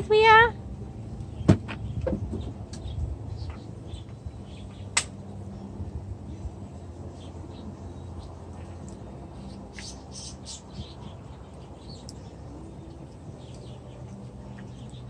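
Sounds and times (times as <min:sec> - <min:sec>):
steady low hum: 0:00.0 - 0:15.0
small birds chirping: 0:01.2 - 0:05.7, 0:06.3 - 0:15.0.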